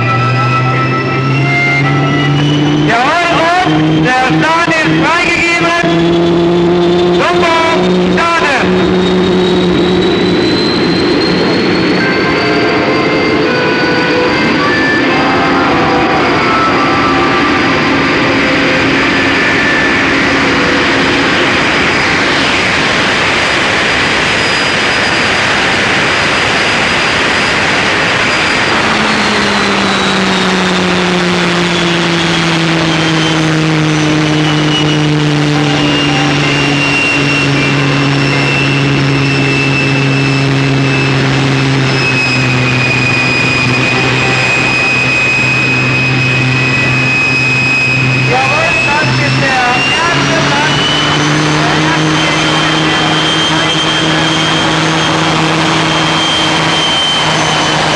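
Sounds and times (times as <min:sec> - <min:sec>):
tractor engine with high whine: 0:00.0 - 0:57.9.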